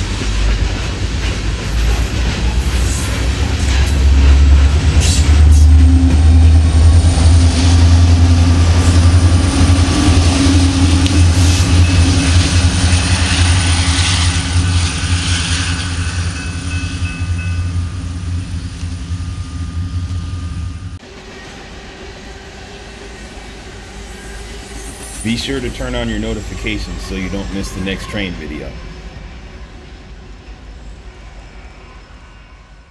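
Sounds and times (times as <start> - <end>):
diesel locomotive engines droning: 0.0 - 32.9.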